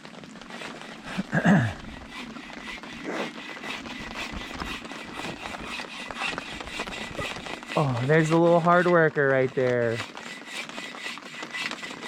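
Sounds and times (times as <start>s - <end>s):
heavy rain pattering: 0.0s - 6.8s, 7.4s - 12.0s.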